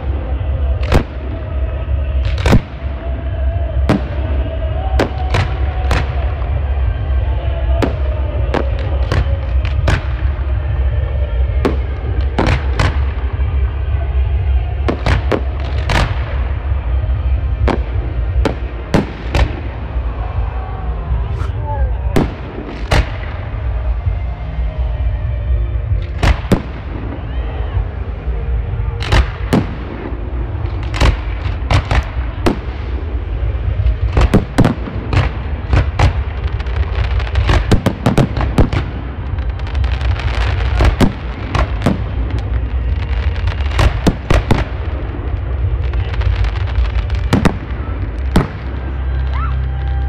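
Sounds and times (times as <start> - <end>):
low rumble: 0.0 - 50.0.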